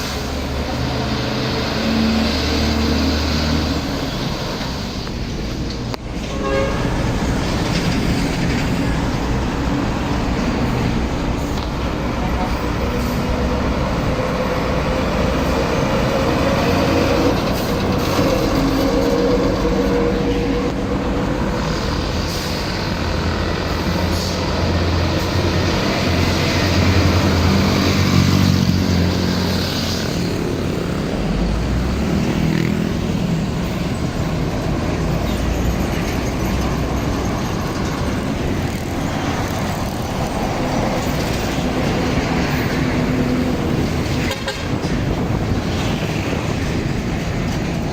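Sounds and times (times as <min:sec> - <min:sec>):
heavy trucks passing: 0:00.0 - 0:47.9.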